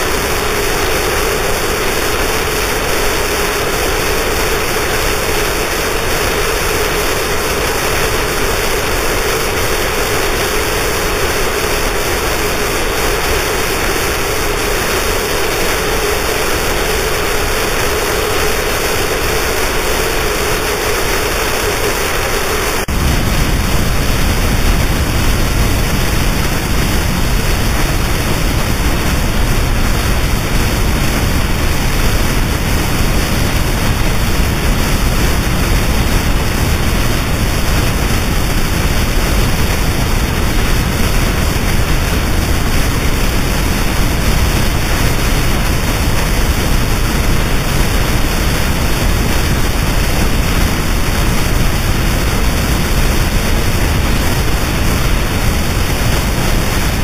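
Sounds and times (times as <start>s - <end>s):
harsh noise music static: 0.0s - 57.0s
rumbling wall of noise: 0.0s - 57.0s.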